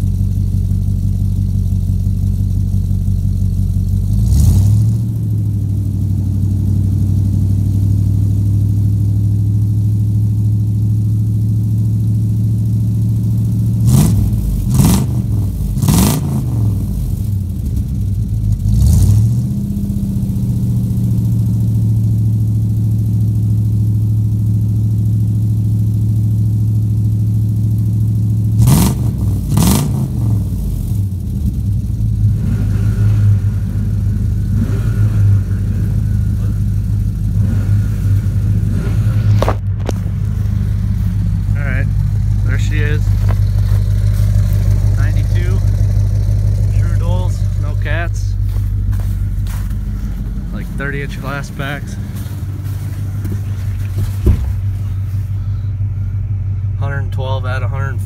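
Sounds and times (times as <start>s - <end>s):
engine throttle blips: 0.0s - 58.0s
truck engine idling: 0.0s - 58.0s.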